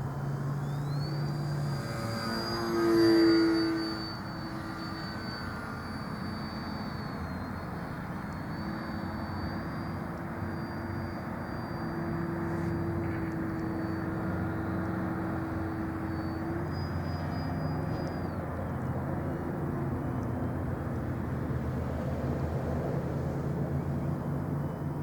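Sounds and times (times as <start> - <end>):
thin high whine: 0.0 - 21.6
model airplane motor droning: 0.0 - 25.0.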